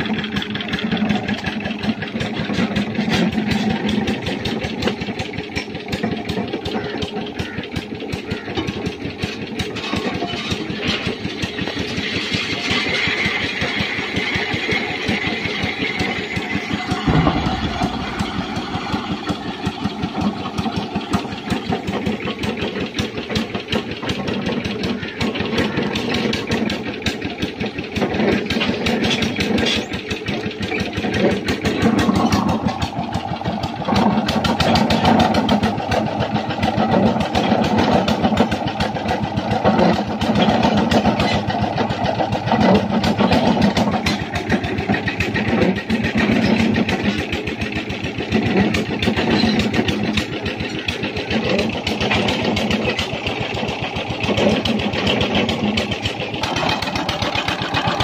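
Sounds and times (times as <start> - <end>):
small engine running steadily: 0.0 - 58.0.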